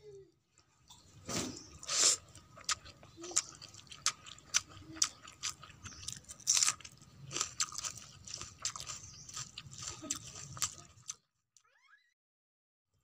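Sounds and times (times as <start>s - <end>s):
food crunching while eating: 0.5s - 11.3s.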